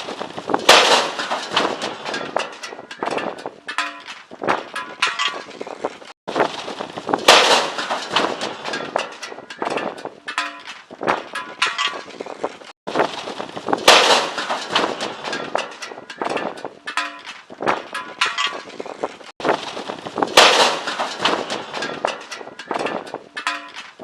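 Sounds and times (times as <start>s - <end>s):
loud metal crash: 0.0s - 3.9s, 6.3s - 12.2s, 12.9s - 23.8s
metal grill clattering and banging: 0.0s - 24.0s.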